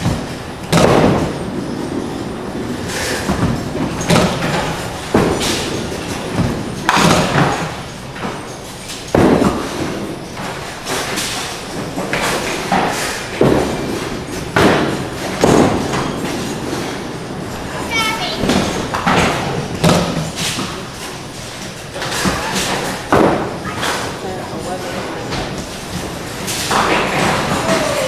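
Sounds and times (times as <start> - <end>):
bowling balls knocking pins: 0.0 - 24.2, 25.2 - 28.0
balls rolling on wooden lanes: 0.0 - 28.0.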